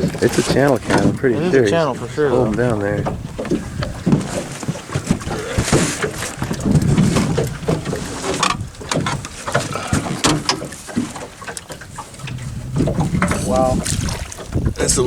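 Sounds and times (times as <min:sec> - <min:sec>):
knocks and clatter against boat: 0:00.0 - 0:15.0
water splashing: 0:00.0 - 0:15.0.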